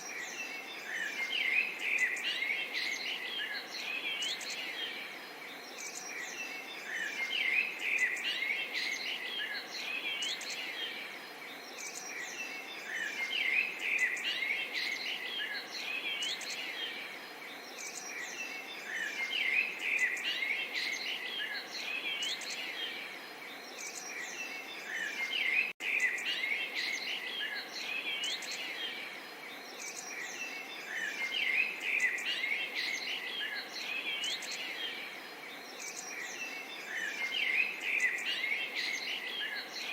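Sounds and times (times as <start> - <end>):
faint background hiss: 0.0 - 39.9
songbirds chirping: 0.0 - 39.9.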